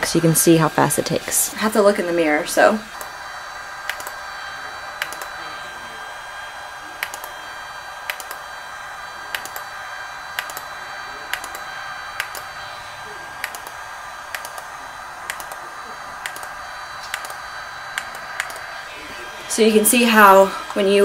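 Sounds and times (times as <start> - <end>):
cooling fan whirring and whining: 0.0 - 21.0.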